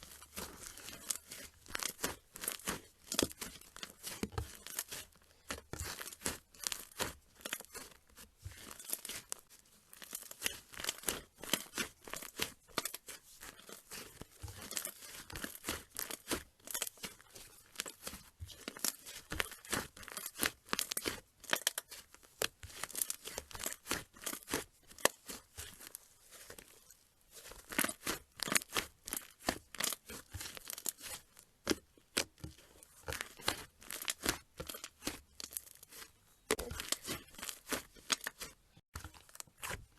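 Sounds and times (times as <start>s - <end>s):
slime crackling and popping: 0.0s - 26.7s, 27.3s - 39.9s.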